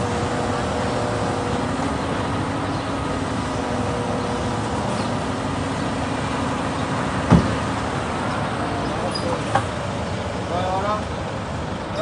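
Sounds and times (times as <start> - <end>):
crane diesel engine running: 0.0 - 12.0.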